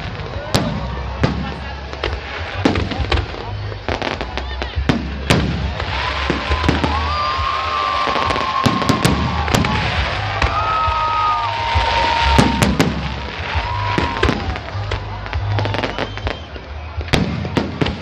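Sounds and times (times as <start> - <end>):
fireworks crackling: 0.0 - 18.0
whistling fireworks: 0.0 - 18.0.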